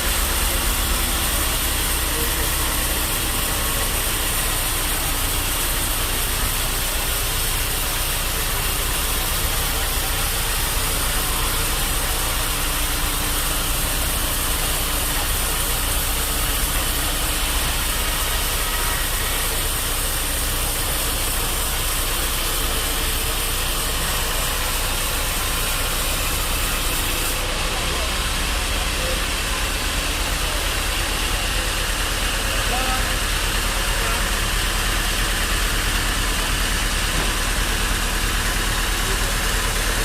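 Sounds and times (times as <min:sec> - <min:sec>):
sawmill bandsaw humming: 0:00.0 - 0:40.0.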